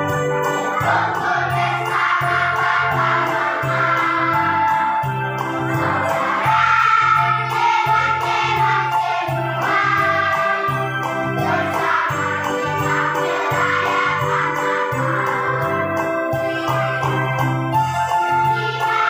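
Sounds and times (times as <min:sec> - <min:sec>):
children's choir singing: 0:00.0 - 0:19.0
instrumental accompaniment: 0:00.0 - 0:19.0.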